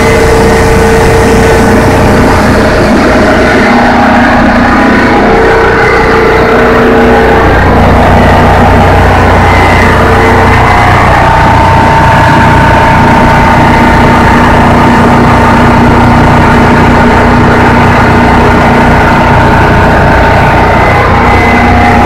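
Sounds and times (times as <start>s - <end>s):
diesel generator running: 0.0s - 22.0s
steady whine: 0.0s - 22.0s.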